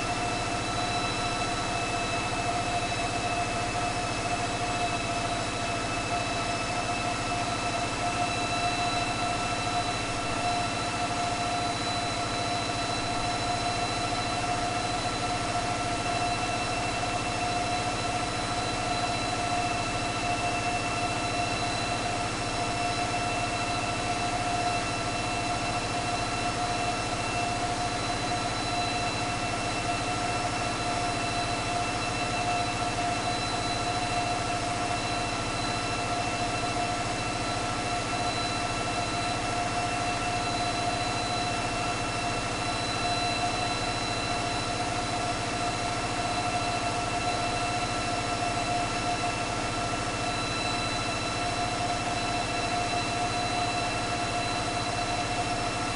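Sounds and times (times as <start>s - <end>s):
steady high whine: 0.0s - 55.9s.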